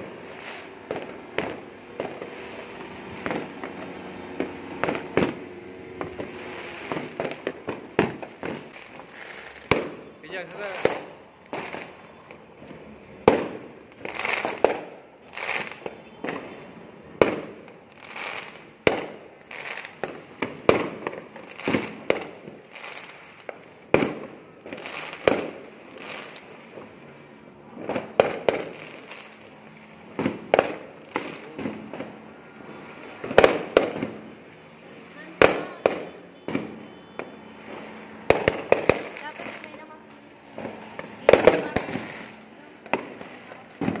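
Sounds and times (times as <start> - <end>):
distant fireworks bangs: 0.0 - 27.0, 27.7 - 44.0
fireworks bangs: 0.0 - 44.0.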